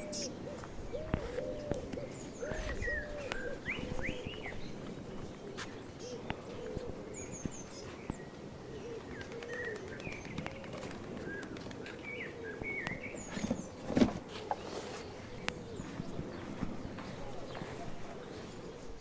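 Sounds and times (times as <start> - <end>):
dove cooing: 0.0 - 19.0
small birds chirping: 0.0 - 19.0.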